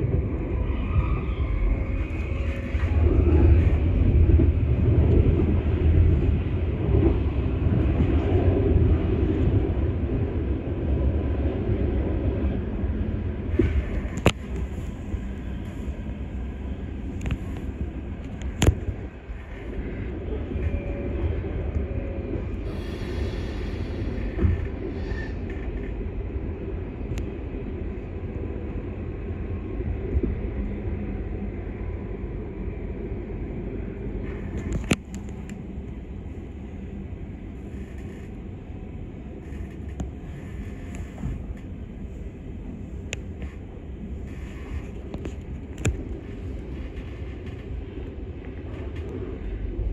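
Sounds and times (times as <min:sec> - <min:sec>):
train rumbling inside carriage: 0:00.0 - 0:49.9.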